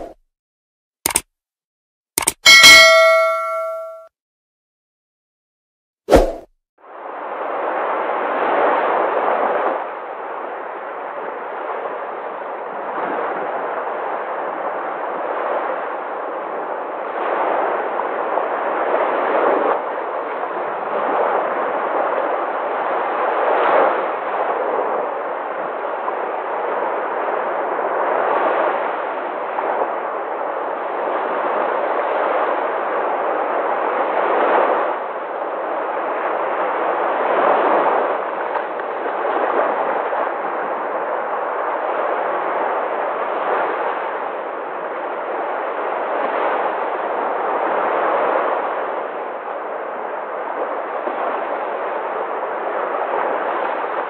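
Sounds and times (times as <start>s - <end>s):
small waves breaking on beach: 6.9s - 54.0s.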